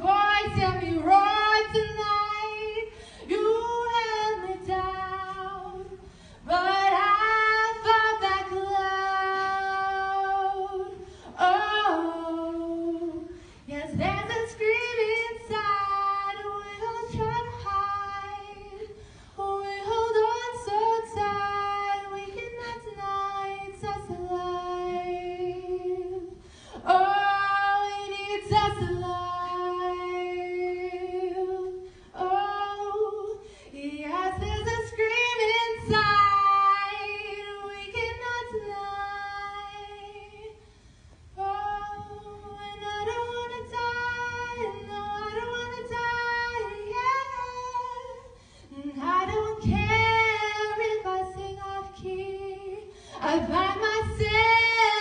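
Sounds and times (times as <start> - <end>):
woman singing a cappella: 0.0 - 55.0.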